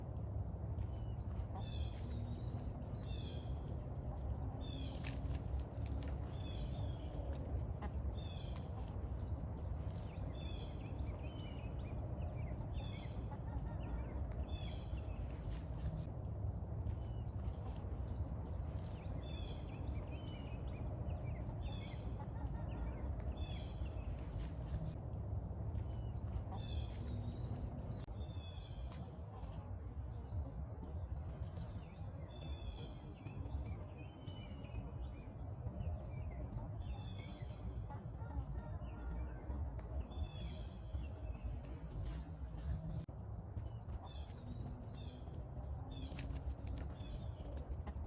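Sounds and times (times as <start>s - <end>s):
low background rumble: 0.0s - 48.0s.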